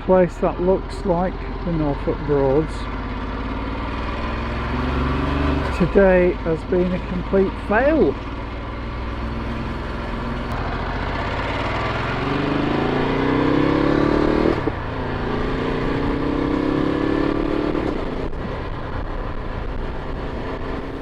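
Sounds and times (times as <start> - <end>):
motorcycle engine accelerating: 0.0 - 21.0
wind and road rush: 0.0 - 21.0.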